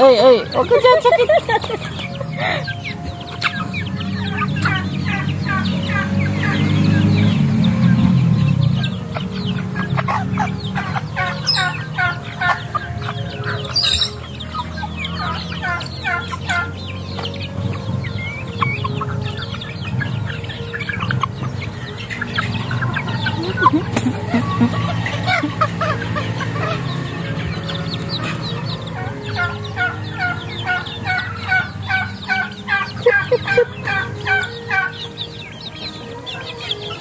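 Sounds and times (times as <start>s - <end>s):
chicks clucking and peeping: 0.0s - 37.0s.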